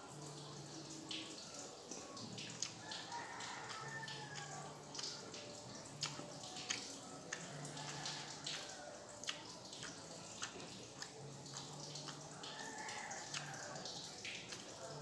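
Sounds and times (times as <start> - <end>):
person chewing with mouth smacks: 2.0 - 15.0.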